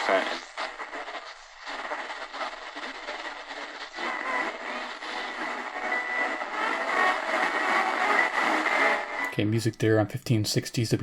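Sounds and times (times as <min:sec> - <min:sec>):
radio static hiss: 0:00.0 - 0:09.4.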